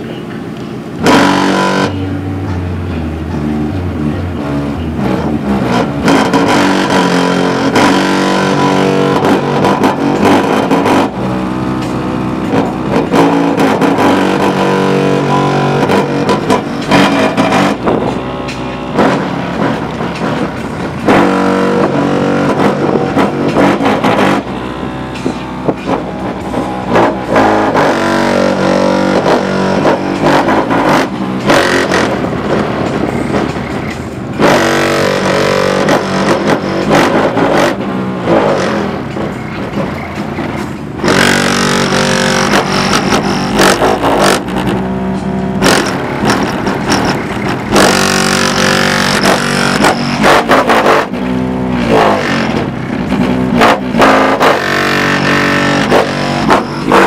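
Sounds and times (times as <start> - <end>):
loud music through car subwoofer: 0.9 - 57.0.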